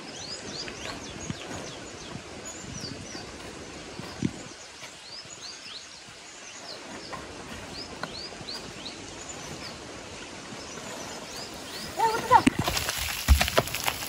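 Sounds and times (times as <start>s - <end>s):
faint outdoor background: 0.0s - 14.0s
small birds chirping: 0.0s - 14.0s.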